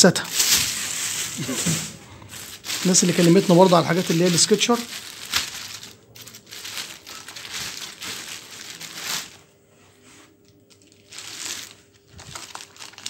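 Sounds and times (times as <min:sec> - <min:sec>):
plastic bag crinkling: 0:00.0 - 0:09.4, 0:10.4 - 0:13.0.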